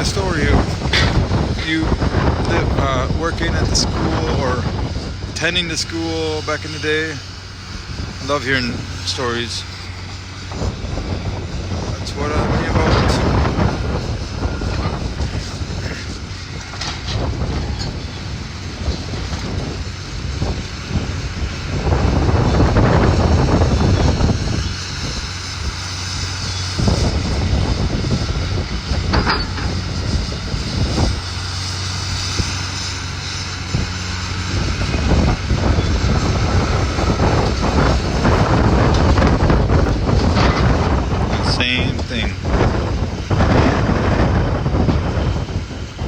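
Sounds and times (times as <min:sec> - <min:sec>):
demolition machinery engine running: 0:00.0 - 0:46.0.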